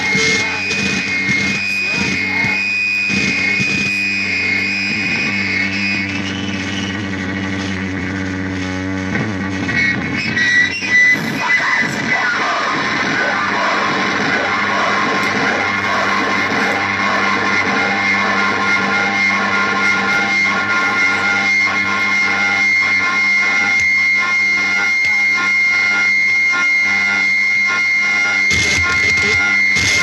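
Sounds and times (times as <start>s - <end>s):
high sustained tone: 0.0s - 7.7s, 12.3s - 29.8s
harsh noise wash with whine: 0.0s - 30.0s
low humming drones: 0.0s - 30.0s.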